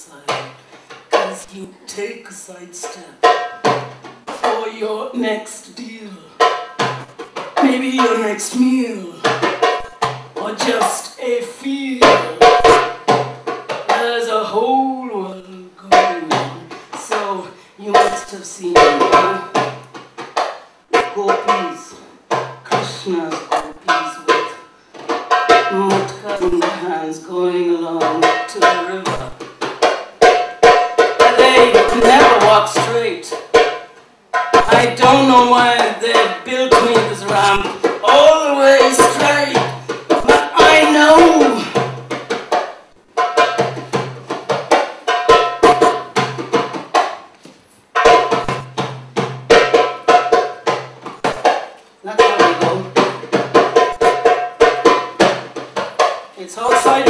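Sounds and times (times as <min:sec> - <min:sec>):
sharp drum strokes: 0:00.0 - 0:14.8, 0:15.8 - 0:57.0
percussion: 0:00.0 - 0:57.0
live music with plucked notes: 0:05.2 - 0:11.2, 0:15.9 - 0:57.0.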